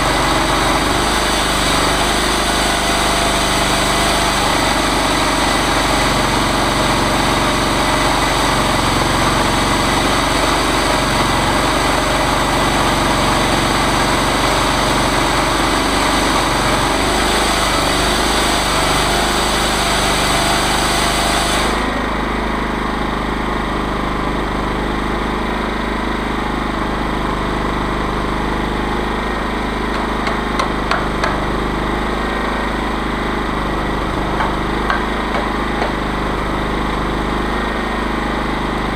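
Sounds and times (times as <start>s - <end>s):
chainsaw engine and chain running: 0.0s - 38.9s.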